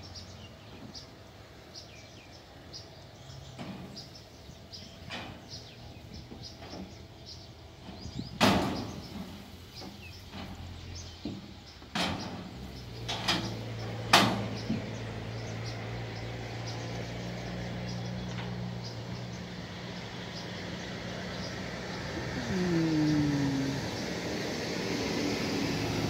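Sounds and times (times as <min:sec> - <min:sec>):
engine low hum: 0:00.0 - 0:26.0.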